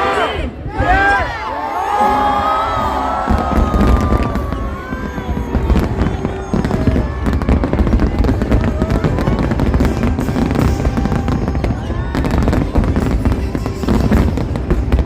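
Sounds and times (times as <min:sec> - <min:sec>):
fireworks bangs and crackling: 0:02.2 - 0:15.0.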